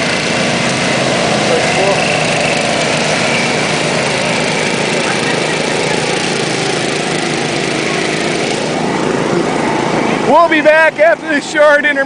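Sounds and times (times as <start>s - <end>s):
riding lawn mower engines running: 0.0s - 12.0s.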